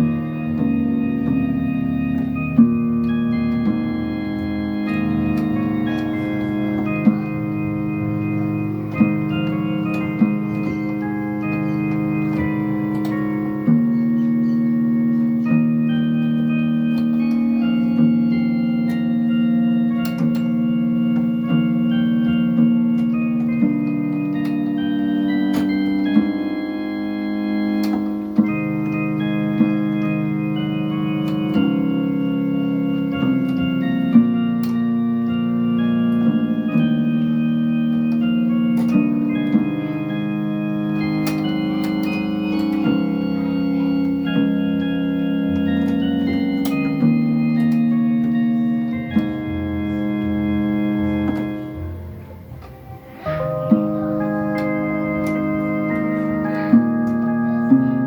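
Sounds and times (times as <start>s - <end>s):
electronic keyboard organ chords: 0.0s - 58.0s.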